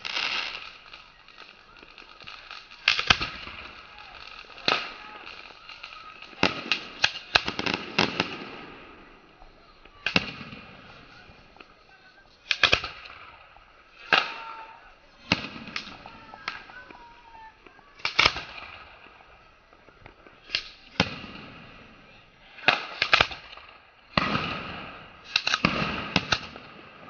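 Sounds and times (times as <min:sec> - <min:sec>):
fireworks bangs: 0:00.0 - 0:27.0
fireworks crackle: 0:00.0 - 0:27.0.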